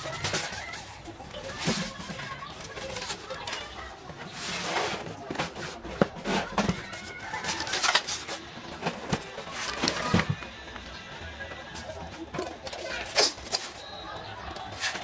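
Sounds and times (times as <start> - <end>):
cardboard rustling and scraping: 0.0 - 15.0.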